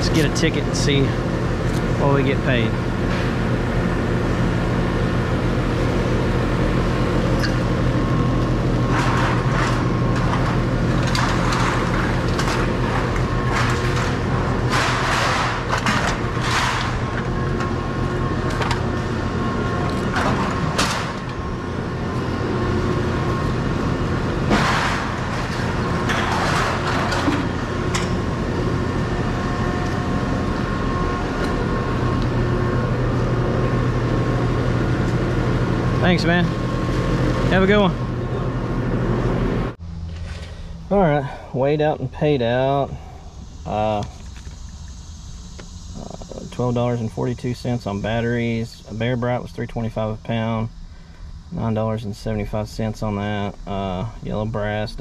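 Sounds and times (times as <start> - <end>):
low machinery hum: 0.0 - 55.0.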